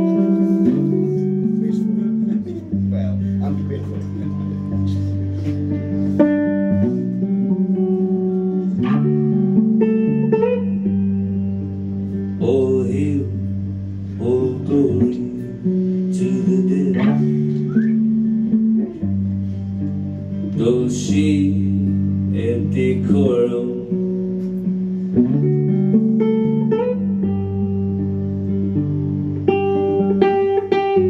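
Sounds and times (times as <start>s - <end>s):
electric guitar picked chords: 0.0s - 31.0s.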